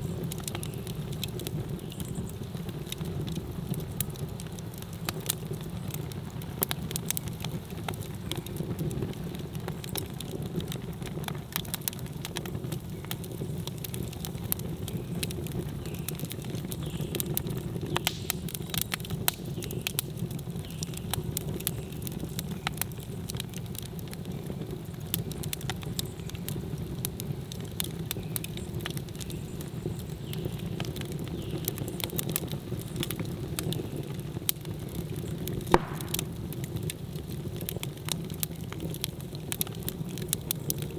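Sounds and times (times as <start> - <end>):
campfire roaring: 0.0 - 40.9
fire crackling and popping: 0.0 - 40.9.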